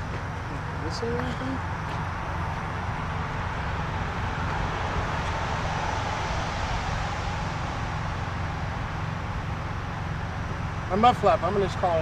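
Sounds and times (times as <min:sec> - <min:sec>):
constant hiss: 0:00.0 - 0:12.0
diesel truck engine idling: 0:00.0 - 0:12.0.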